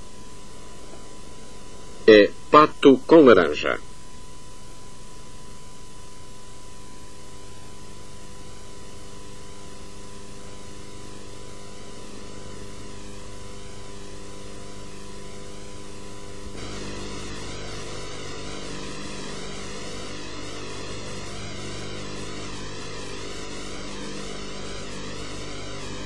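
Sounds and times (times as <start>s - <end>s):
electrical hum and hiss: 0.0s - 26.0s.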